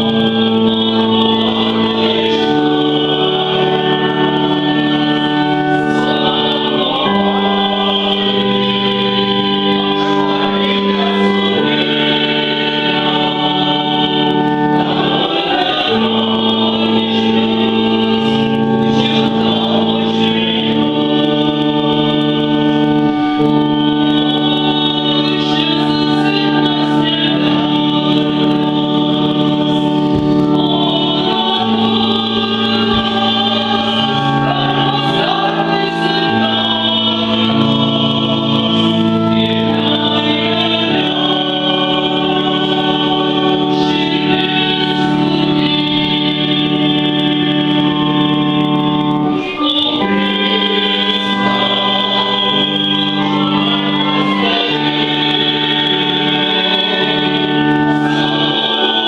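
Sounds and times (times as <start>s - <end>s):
group singing a hymn: 0.0s - 59.0s
organ chords: 0.0s - 59.0s.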